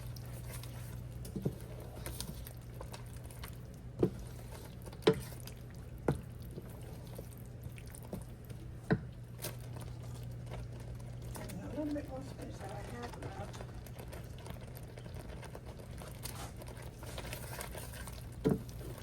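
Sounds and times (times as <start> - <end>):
wet squishing of stirred sauce: 0.0 - 19.0.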